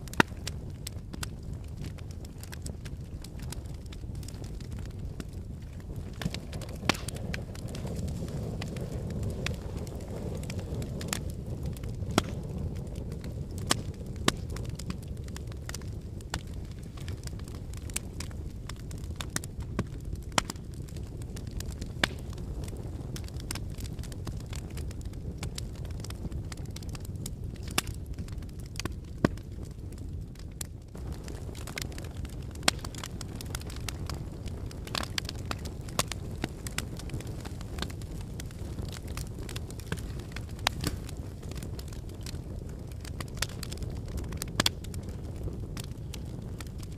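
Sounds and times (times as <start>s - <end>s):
fire crackling and popping: 0.0s - 46.9s
fire low rumble: 0.0s - 46.9s.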